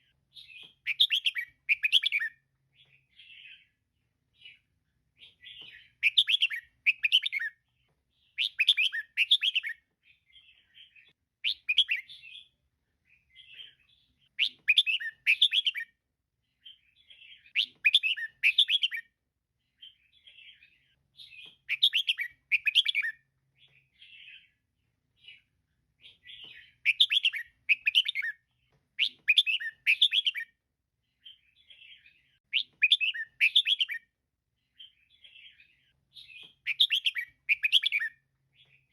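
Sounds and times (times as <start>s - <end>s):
bird chirpy calls: 0.0s - 3.8s, 4.4s - 7.6s, 8.2s - 16.0s, 16.6s - 19.1s, 19.8s - 24.6s, 25.2s - 28.4s, 29.0s - 30.6s, 31.2s - 34.1s, 34.8s - 38.9s.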